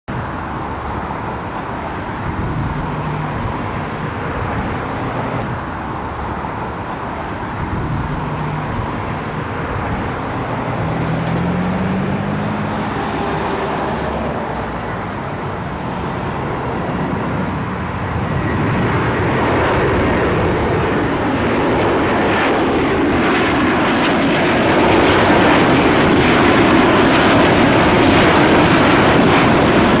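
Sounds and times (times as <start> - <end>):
jet engine roar: 0.1 - 30.0.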